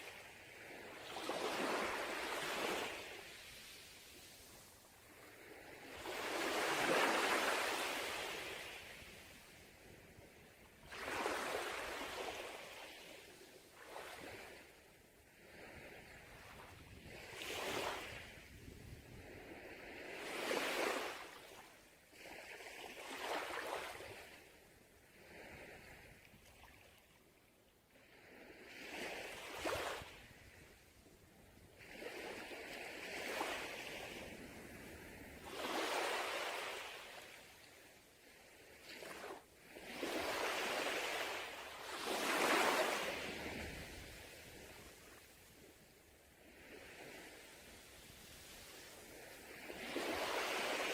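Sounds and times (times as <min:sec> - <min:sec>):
waves breaking on beach: 0:00.0 - 0:24.5, 0:28.0 - 0:31.0, 0:31.7 - 0:50.9.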